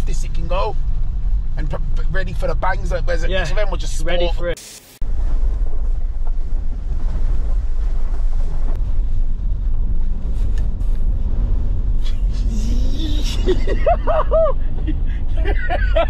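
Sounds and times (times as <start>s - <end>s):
vehicle rumbling over rough track: 0.0s - 16.0s.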